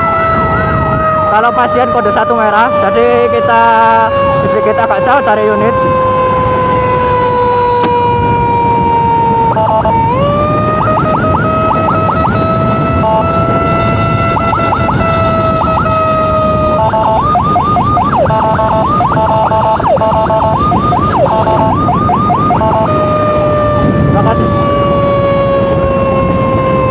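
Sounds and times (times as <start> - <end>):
emergency siren wailing: 0.0 - 26.9
road rumble: 0.0 - 26.9
wind: 0.0 - 26.9.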